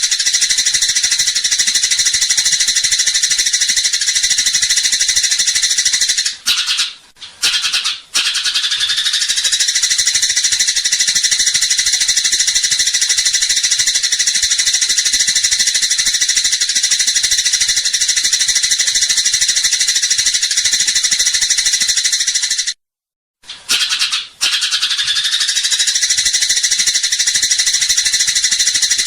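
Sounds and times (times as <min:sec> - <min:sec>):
sparrow rattling chatter: 0:00.0 - 0:22.8, 0:23.6 - 0:29.0.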